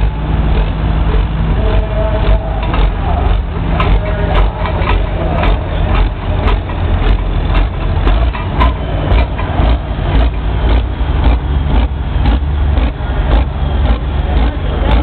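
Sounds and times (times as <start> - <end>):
tractor engine running: 0.0 - 15.0
sharp knocks and clatter: 2.2 - 15.0.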